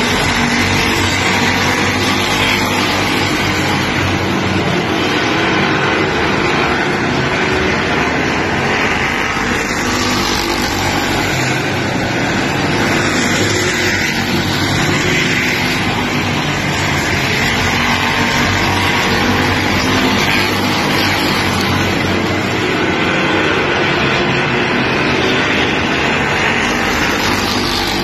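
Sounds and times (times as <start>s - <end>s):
race car engine droning: 0.0s - 28.0s.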